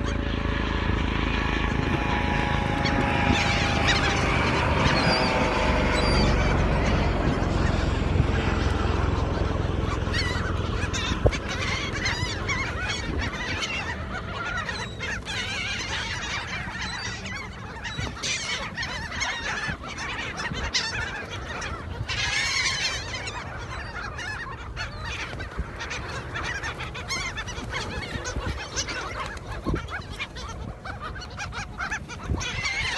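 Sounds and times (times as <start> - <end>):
birds honking: 0.0 - 32.9
steady low rumble: 0.0 - 32.9.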